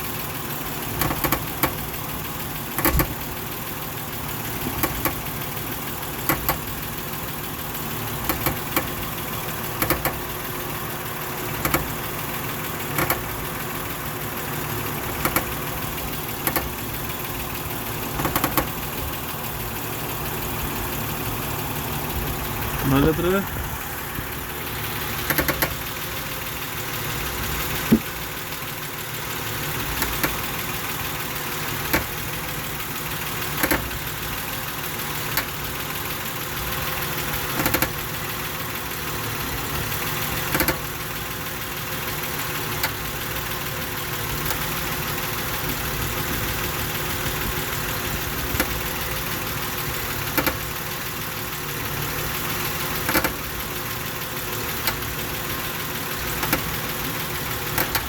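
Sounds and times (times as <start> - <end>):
van engine idling: 0.0 - 58.0
steering clunks: 0.6 - 3.5, 4.2 - 7.0, 7.8 - 10.6, 11.3 - 28.5, 29.1 - 34.5, 35.1 - 35.8, 36.8 - 38.2, 39.7 - 41.0, 42.3 - 43.3, 44.2 - 58.0.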